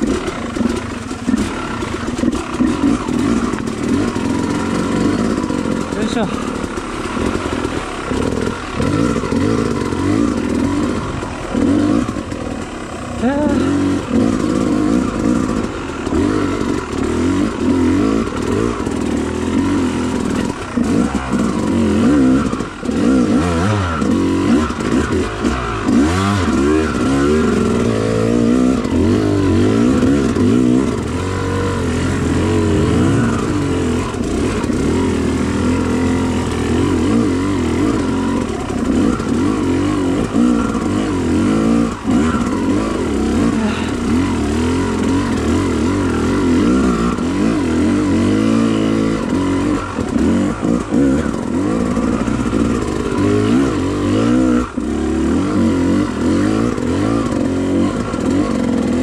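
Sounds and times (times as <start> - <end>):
off-road motorcycle engine revving: 0.0 - 59.0.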